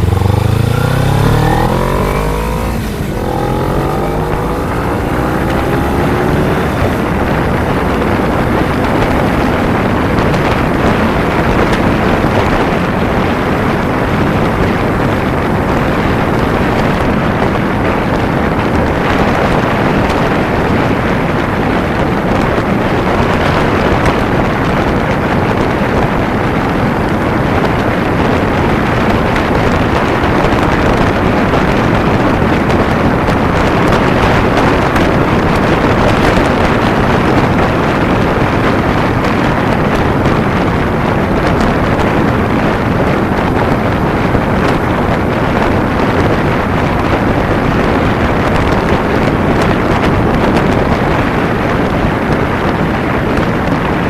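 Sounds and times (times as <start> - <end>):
motorcycle engine accelerating: 0.0 - 54.0
wind rushing over microphone: 0.0 - 54.0.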